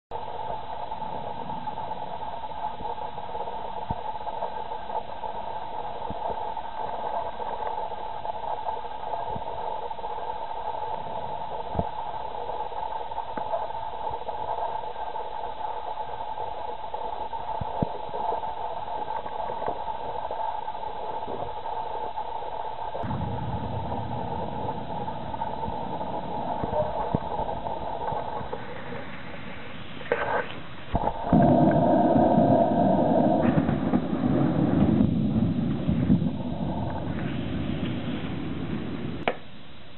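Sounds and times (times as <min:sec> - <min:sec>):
rain hissing: 0:00.1 - 0:39.8.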